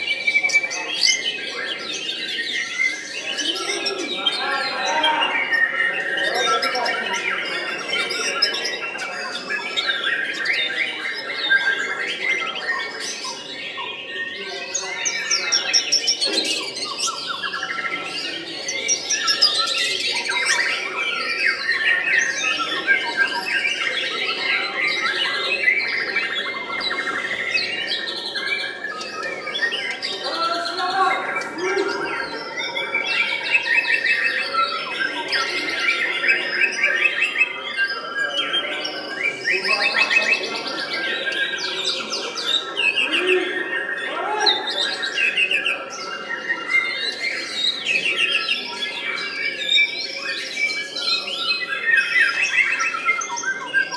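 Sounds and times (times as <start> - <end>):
birds singing: 0.0 - 53.9.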